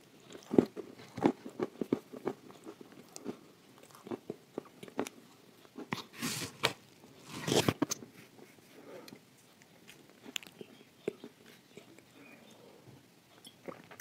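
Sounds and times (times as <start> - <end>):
crunchy chewing: 0.0 - 12.7.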